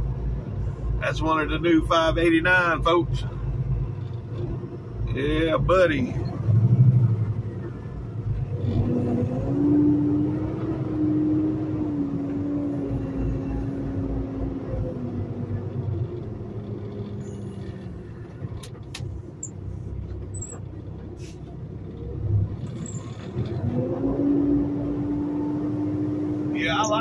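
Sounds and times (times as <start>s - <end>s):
truck diesel engine from cab: 0.0s - 27.0s.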